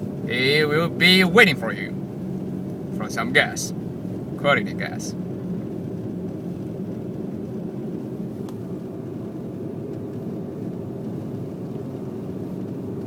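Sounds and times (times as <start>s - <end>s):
car cabin engine and tyre rumble: 0.0s - 13.0s.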